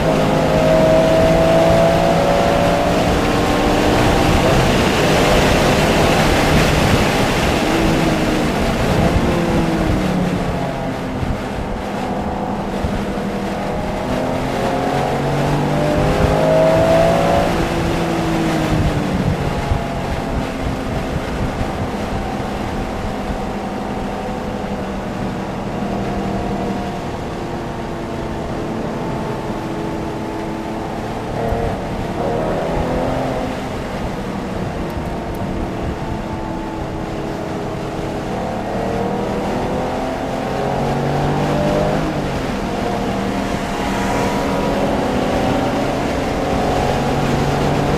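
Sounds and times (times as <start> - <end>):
race car engine revving: 0.0 - 47.9
wind and road noise: 0.0 - 47.9.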